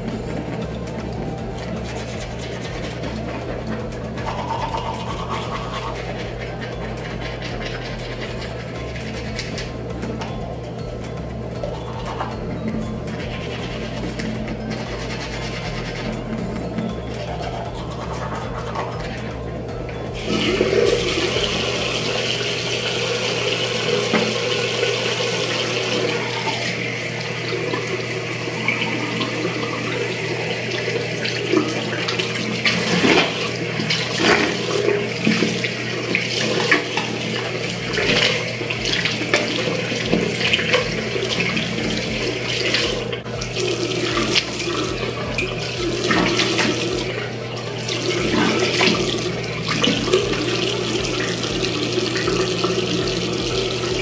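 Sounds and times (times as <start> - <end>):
tap water running into sink: 0.0 - 54.0
water splashing in sink: 0.0 - 54.0.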